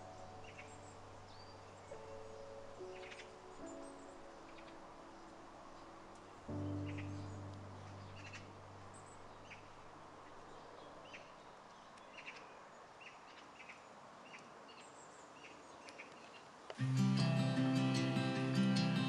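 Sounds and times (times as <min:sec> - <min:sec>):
birds chirping: 0:00.0 - 0:19.0
faint steady hiss: 0:00.0 - 0:19.0.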